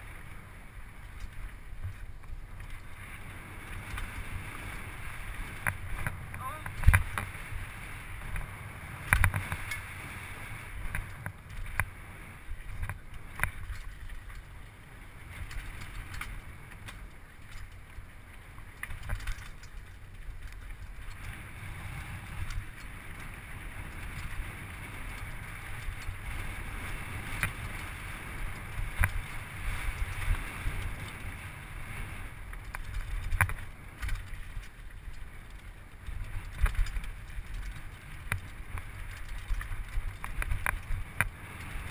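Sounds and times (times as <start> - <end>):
bike rattling over bumps: 0.0 - 41.9
wind: 0.0 - 41.9.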